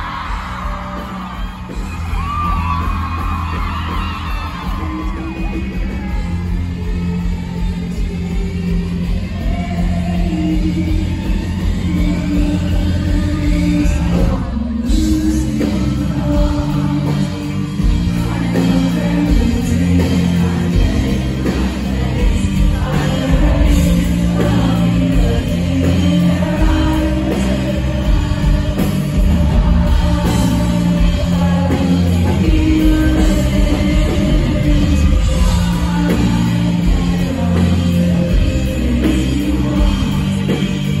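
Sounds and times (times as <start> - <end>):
live rock band playing: 0.0 - 41.0
woman singing: 4.4 - 41.0.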